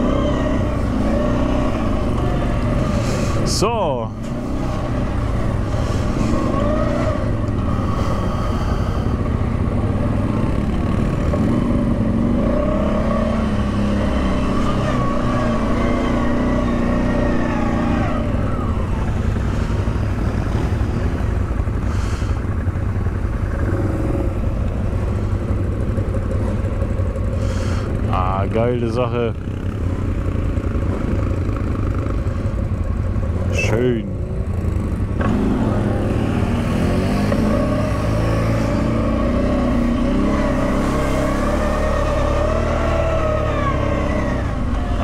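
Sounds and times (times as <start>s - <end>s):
off-road vehicle engine: 0.0s - 45.0s.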